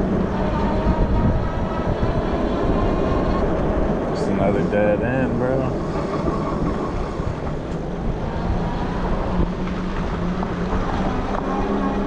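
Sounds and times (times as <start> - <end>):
electric bike humming: 0.0 - 12.0
wind rushing over microphone: 0.0 - 12.0.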